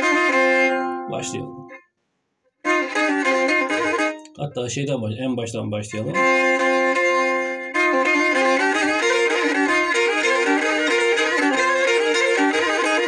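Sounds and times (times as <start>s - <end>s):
bowed fiddle dance melody: 0.0s - 1.9s, 2.6s - 5.0s, 5.8s - 13.0s.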